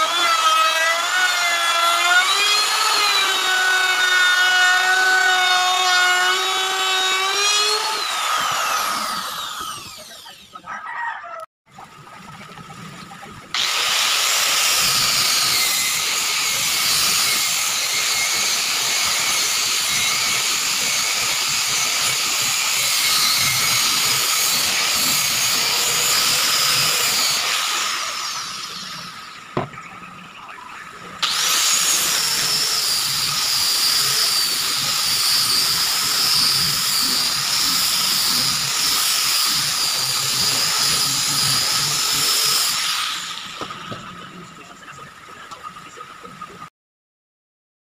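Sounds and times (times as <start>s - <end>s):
electric sander whining: 0.0s - 10.7s, 13.6s - 29.8s, 31.2s - 44.1s.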